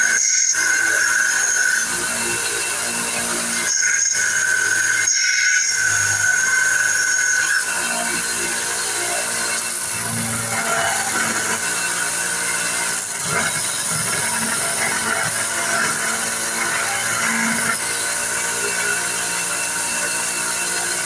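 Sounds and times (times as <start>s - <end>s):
power tool grinding: 0.0s - 21.0s.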